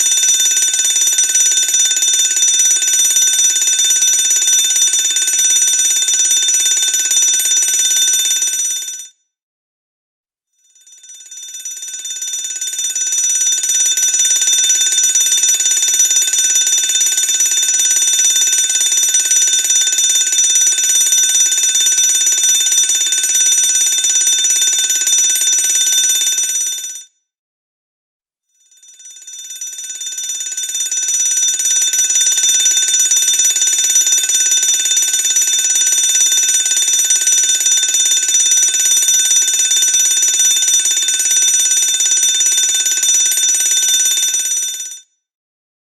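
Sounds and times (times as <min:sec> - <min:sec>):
fire alarm bell ringing: 0:00.0 - 0:08.7, 0:10.8 - 0:27.0, 0:28.8 - 0:45.0.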